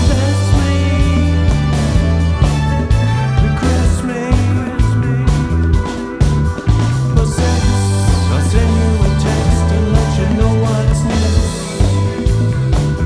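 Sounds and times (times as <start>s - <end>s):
rock band music: 0.0s - 13.0s.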